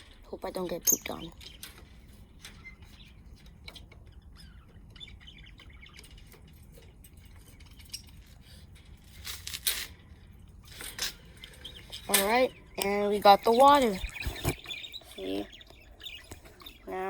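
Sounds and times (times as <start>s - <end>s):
parakeets chirping: 0.3s - 8.7s, 10.6s - 17.0s.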